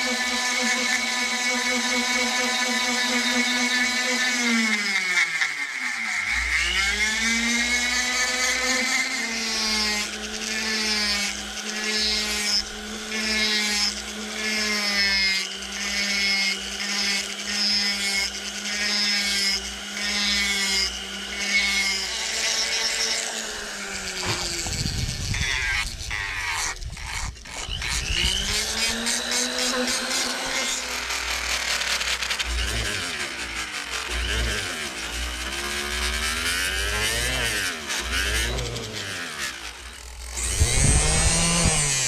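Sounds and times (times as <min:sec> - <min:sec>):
bit rasping on wood: 0:00.0 - 0:42.0
rotary tool whining: 0:00.0 - 0:42.0.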